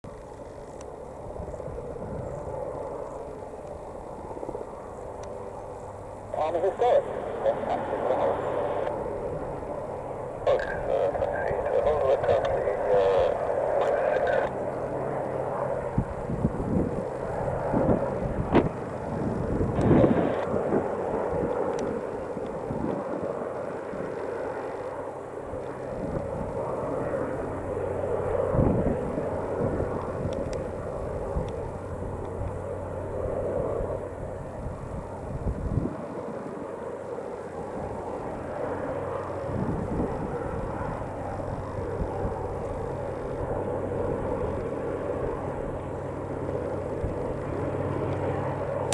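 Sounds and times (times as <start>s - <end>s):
helicopters flying past: 0.1s - 48.9s.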